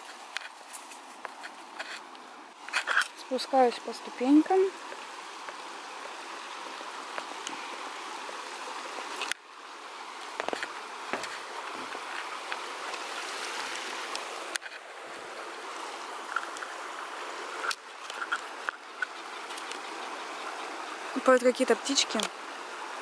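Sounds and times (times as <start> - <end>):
water rushing down spillway: 2.5 - 23.0.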